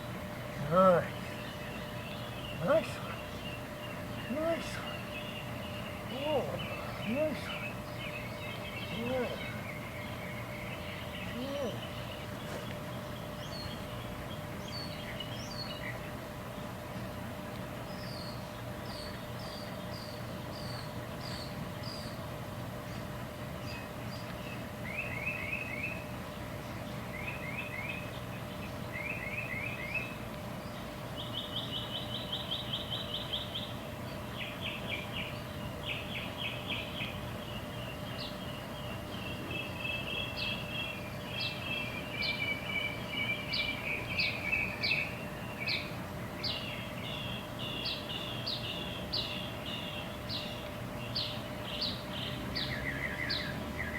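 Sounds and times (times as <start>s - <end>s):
songbird singing: 0.0s - 53.9s.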